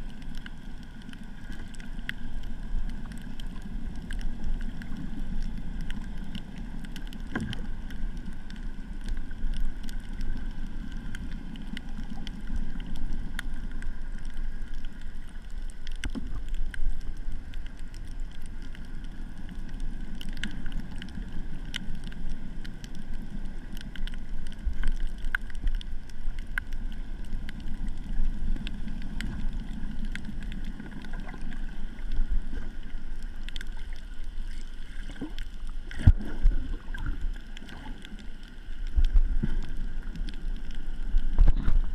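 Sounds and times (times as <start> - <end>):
muffled rumble of moving water: 0.0 - 41.9.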